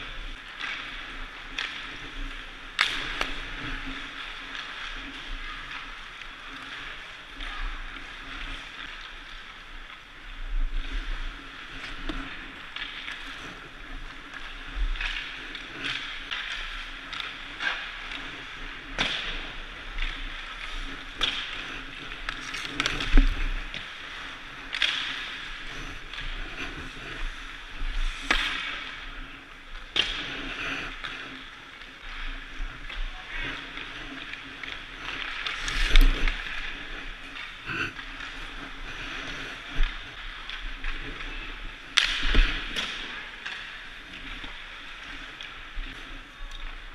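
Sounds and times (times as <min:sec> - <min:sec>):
skates scraping ice: 0:00.0 - 0:46.9
sticks and pucks clacking: 0:00.0 - 0:46.9.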